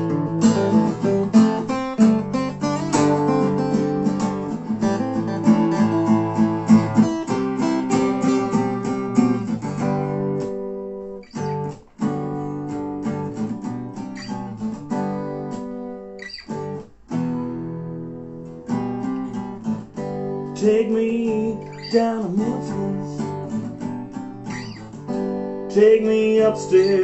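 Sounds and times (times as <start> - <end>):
acoustic guitars playing: 0.0 - 27.0.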